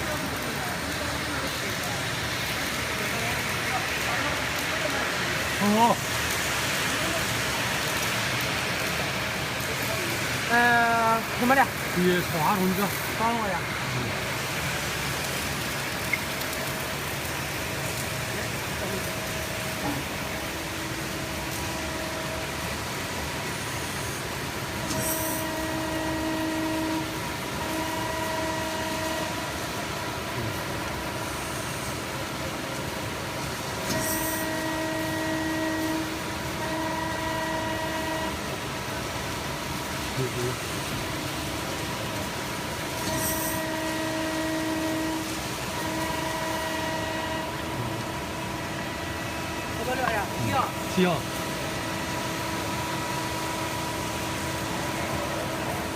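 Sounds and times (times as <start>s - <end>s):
workshop machine noise: 0.0s - 55.9s
hydraulic system humming and whining: 2.1s - 40.0s, 40.6s - 55.9s.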